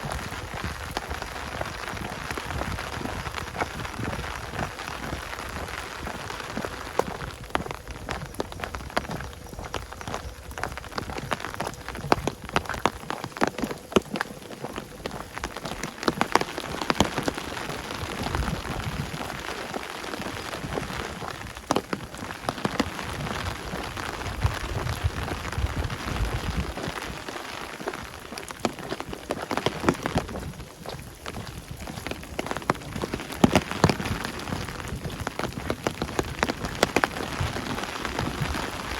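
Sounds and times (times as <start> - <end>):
rain hissing through forest: 0.0 - 38.9
raindrops ticking: 0.0 - 38.9.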